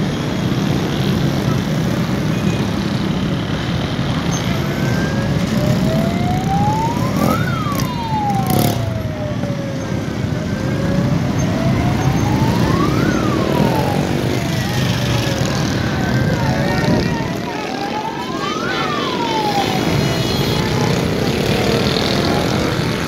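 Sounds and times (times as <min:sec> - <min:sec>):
traffic rumble: 0:00.0 - 0:23.0
siren wailing: 0:00.3 - 0:23.0.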